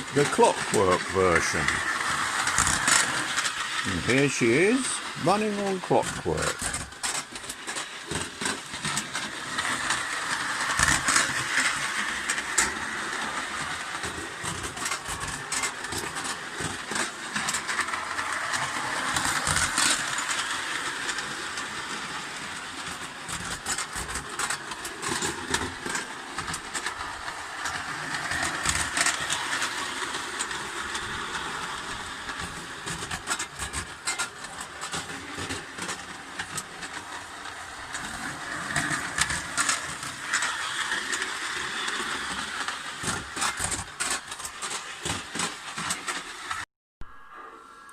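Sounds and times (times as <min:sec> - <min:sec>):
toy train metallic rattle: 0:00.0 - 0:46.6.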